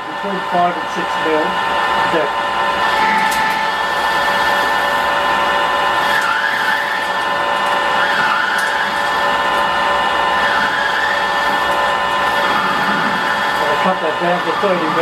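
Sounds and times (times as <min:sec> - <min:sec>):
lathe cutting metal: 0:00.0 - 0:15.0.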